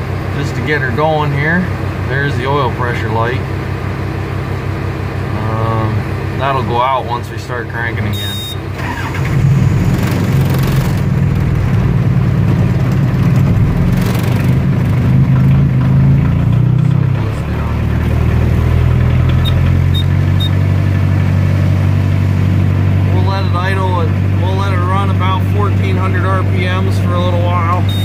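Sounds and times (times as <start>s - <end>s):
diesel engine starting and idling: 0.0s - 28.0s.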